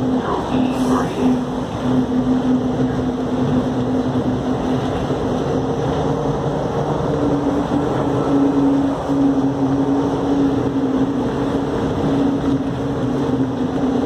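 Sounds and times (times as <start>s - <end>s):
train rumbling on elevated track: 0.0s - 14.0s.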